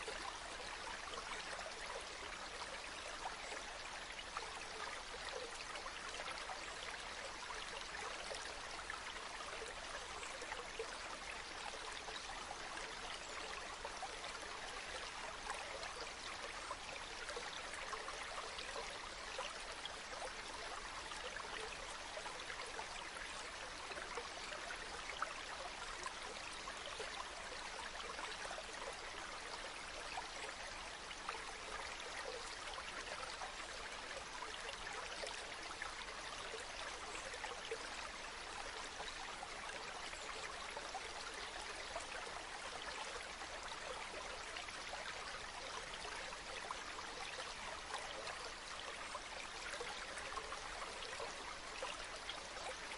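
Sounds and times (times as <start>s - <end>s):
stream water babbling: 0.0s - 52.9s.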